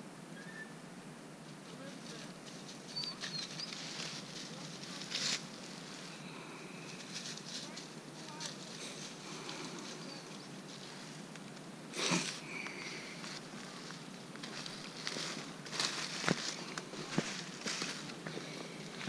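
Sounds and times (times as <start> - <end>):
leaves rustling: 1.4 - 19.0
footsteps crunching through dry leaves: 1.7 - 11.2, 12.0 - 19.0.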